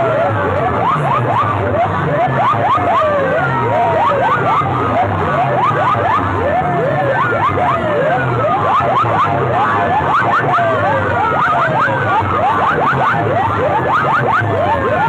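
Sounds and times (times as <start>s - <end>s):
siren-like sweeps from loudspeakers: 0.0s - 15.0s.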